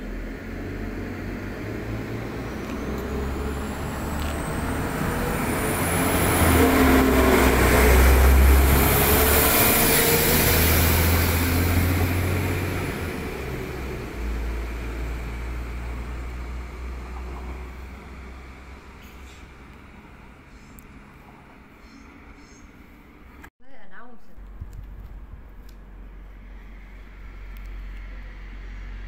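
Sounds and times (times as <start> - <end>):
diesel train engine drone: 0.0 - 23.5, 24.4 - 29.0
train engine whine: 0.0 - 23.5, 25.1 - 29.0.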